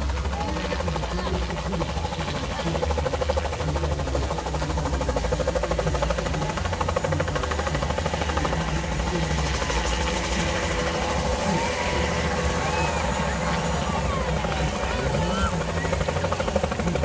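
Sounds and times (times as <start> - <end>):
helicopter rotor beat: 0.0 - 17.0
turbine whine: 0.0 - 17.0.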